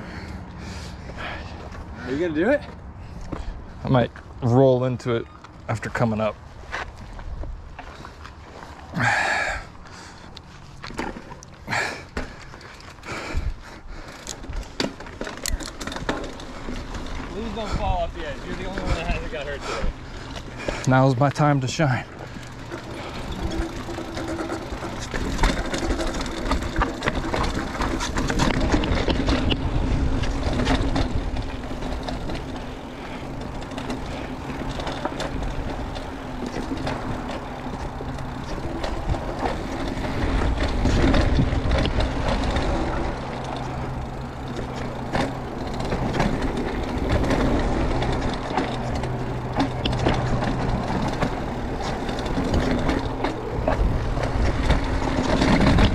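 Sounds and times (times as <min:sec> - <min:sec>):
bike rattling and knocking: 0:00.0 - 0:55.9.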